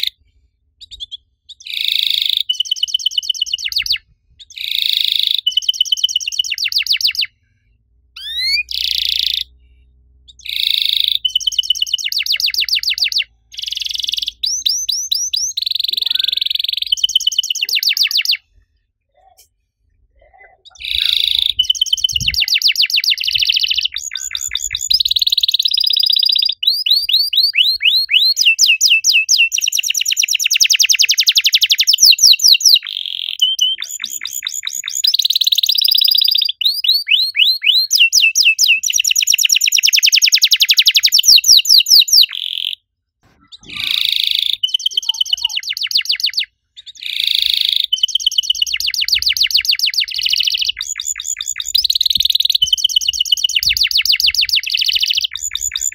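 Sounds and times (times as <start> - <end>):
canary singing: 0.8 - 7.4, 8.2 - 9.6, 10.3 - 18.5, 20.2 - 55.9.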